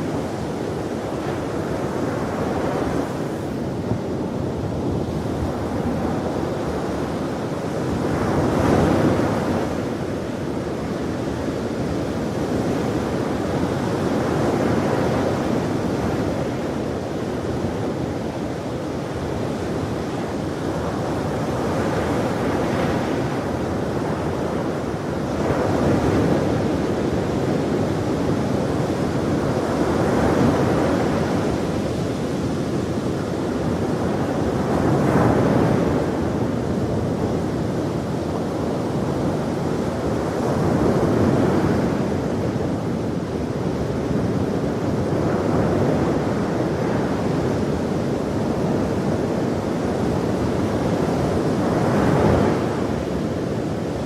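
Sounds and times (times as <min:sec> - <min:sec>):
ocean waves breaking on shore: 0:00.0 - 0:54.0
wind noise on microphone: 0:00.0 - 0:54.0.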